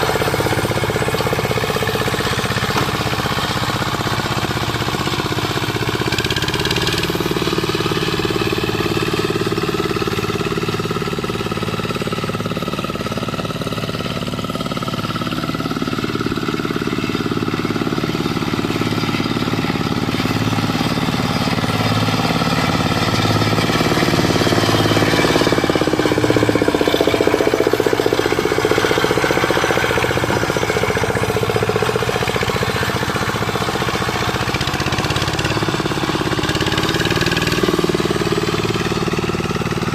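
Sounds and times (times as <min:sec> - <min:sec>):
diesel hand tractor engine tilling: 0:00.0 - 0:39.9.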